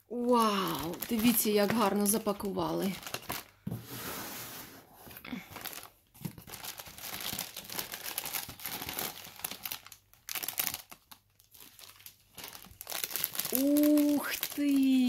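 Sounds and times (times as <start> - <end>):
plastic packaging crinkling: 0.1 - 3.7, 5.3 - 15.0.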